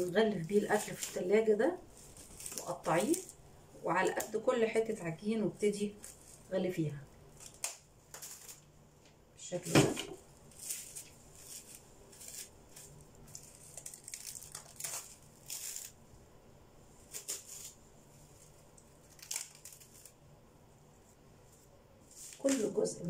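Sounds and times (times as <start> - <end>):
plastic cling film crinkling: 0.0 - 16.2, 16.9 - 20.3, 21.1 - 23.0.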